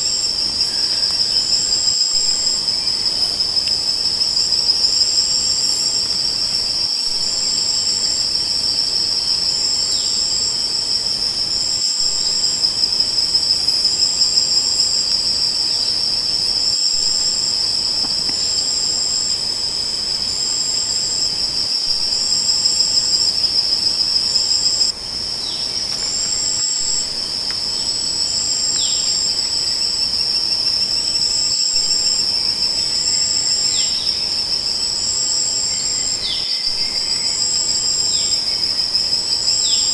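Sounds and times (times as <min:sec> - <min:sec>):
cricket steady high trill: 0:00.0 - 0:39.9
higher cricket chirping call: 0:00.0 - 0:39.9.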